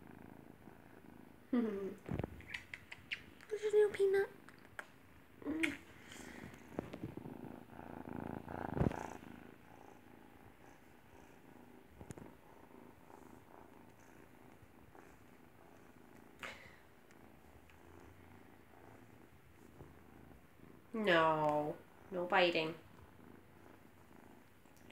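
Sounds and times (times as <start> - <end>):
kitten purring: 0.0 - 24.9.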